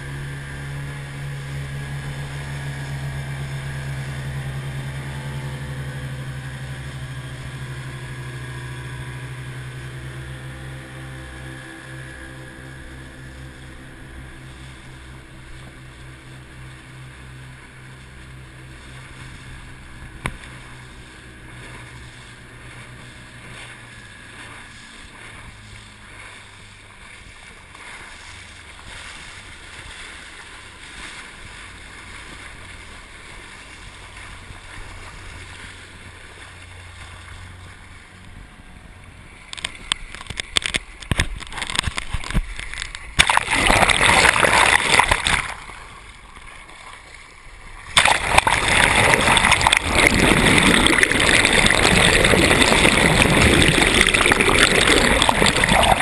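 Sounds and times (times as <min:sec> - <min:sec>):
boat engine running: 0:00.0 - 0:56.0
water and wind rushing: 0:00.0 - 0:56.0
water splashing and sloshing: 0:00.0 - 0:56.0.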